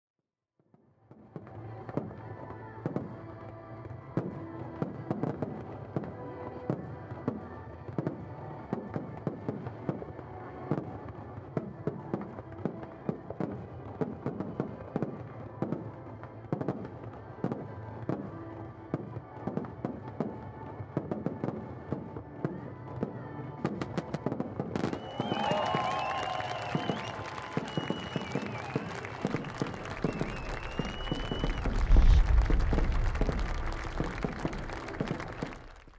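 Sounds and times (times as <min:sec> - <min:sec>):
fireworks bangs and crackles: 0:01.1 - 0:03.2, 0:03.8 - 0:35.9.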